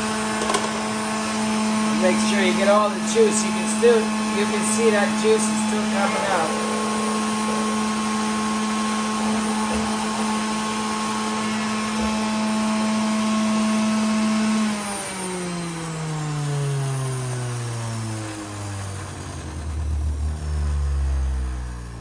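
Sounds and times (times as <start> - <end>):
juicer motor whining: 0.0 - 22.0.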